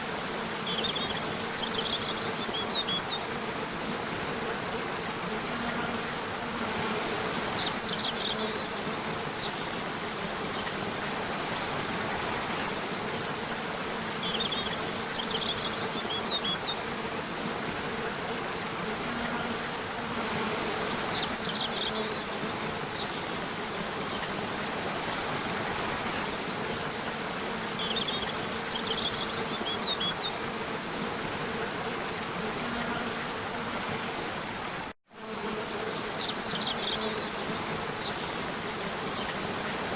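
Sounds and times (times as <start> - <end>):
flowing water: 0.0 - 35.0, 35.7 - 39.9
insect buzz: 0.0 - 39.9.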